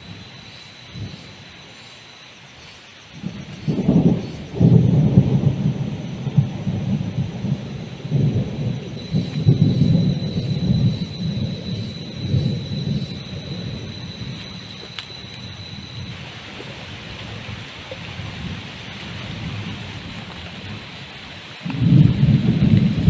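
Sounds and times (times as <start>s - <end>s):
heavy rain falling: 0.0s - 23.0s
rolling thunder rumble: 3.1s - 23.0s.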